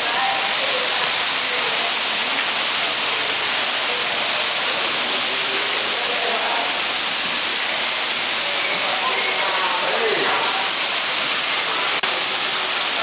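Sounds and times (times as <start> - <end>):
rushing running water: 0.0 - 13.0.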